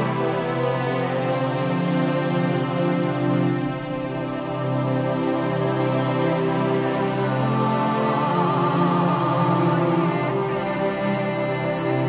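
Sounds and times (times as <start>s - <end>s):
calm new-age music: 0.0s - 12.0s.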